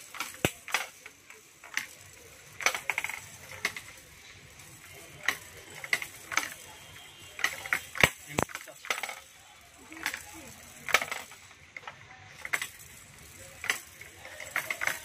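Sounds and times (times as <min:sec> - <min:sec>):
plastic balls rattling down ramps: 0:00.0 - 0:15.0.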